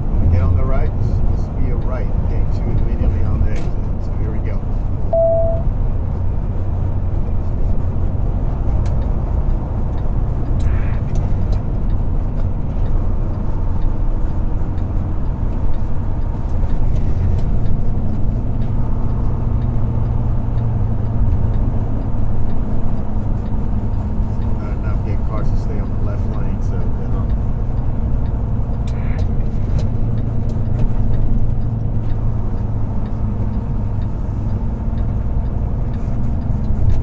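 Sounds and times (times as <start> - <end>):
road noise: 0.0 - 37.0
truck diesel engine rumble: 0.0 - 37.0.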